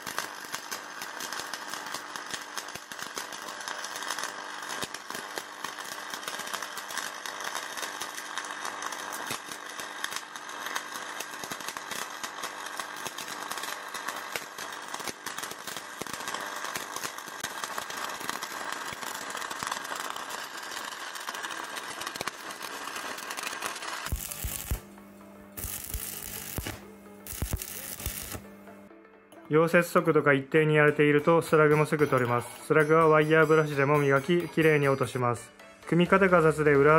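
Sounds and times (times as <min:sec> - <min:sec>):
arc welding crackle and sizzle: 0:00.0 - 0:28.9, 0:31.2 - 0:35.2.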